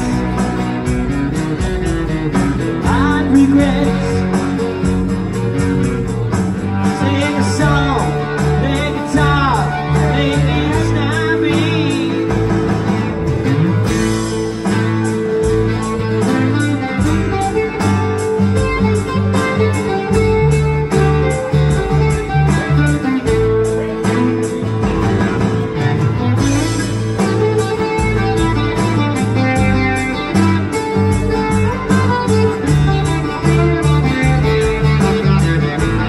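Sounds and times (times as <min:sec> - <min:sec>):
acoustic guitars playing rock: 0:00.0 - 0:36.0.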